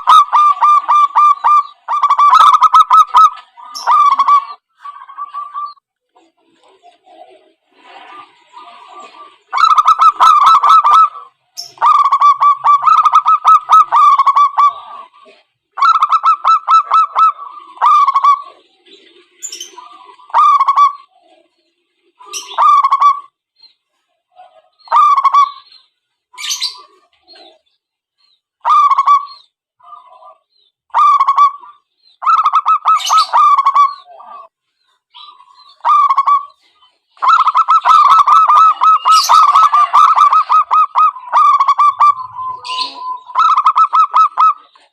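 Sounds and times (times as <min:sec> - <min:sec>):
doves cooing: 0:00.0 - 0:23.4, 0:24.3 - 0:27.8, 0:28.6 - 0:44.9.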